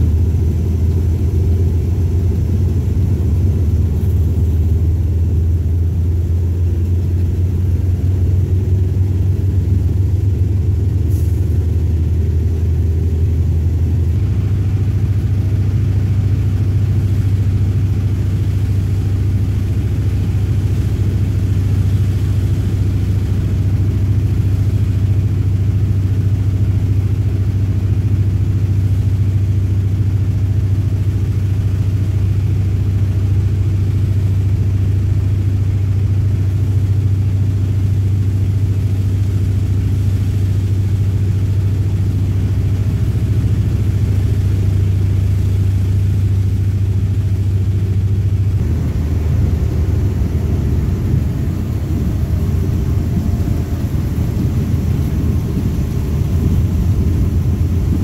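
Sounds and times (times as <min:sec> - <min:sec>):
diesel train engine drone: 0:00.0 - 0:58.0.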